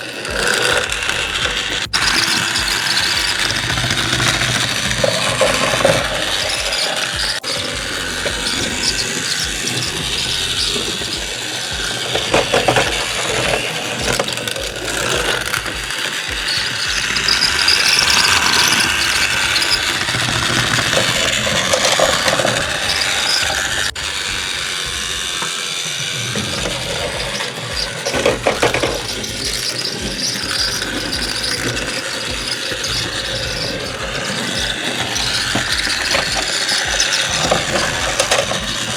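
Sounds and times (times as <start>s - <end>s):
toy train motor whirring: 0.0s - 38.9s.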